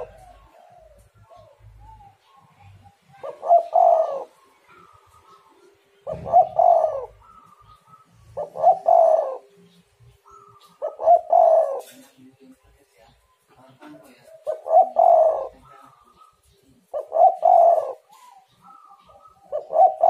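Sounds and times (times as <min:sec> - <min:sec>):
dove cooing: 0:00.0 - 0:12.2, 0:14.0 - 0:20.0.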